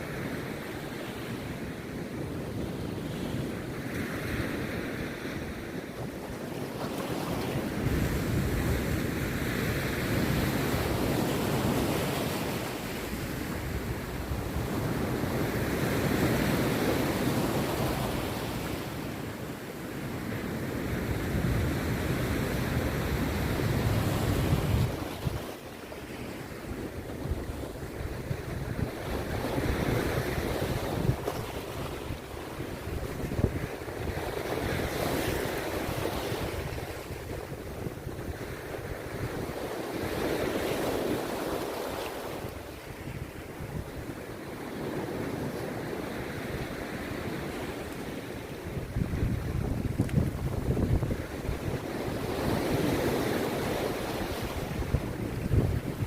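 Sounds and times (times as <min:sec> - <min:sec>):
wind buffeting microphone: 0:00.0 - 0:19.1, 0:20.0 - 0:25.6, 0:26.3 - 0:41.4, 0:42.3 - 0:56.0
surf breaking on beach: 0:02.8 - 0:56.0.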